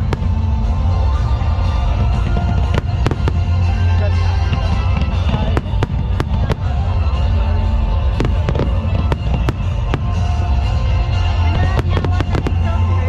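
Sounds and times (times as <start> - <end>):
music: 0.0 - 13.0
steady deep rumble: 0.0 - 13.0.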